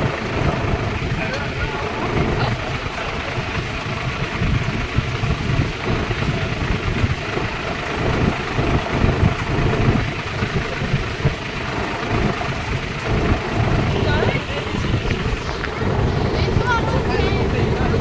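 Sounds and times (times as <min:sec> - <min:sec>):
tractor engines rumbling: 0:00.0 - 0:18.0.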